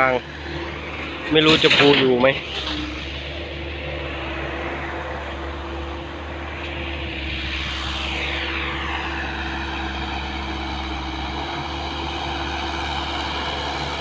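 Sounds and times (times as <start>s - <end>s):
diesel engine running: 0.0s - 14.0s
high whine: 0.0s - 14.0s.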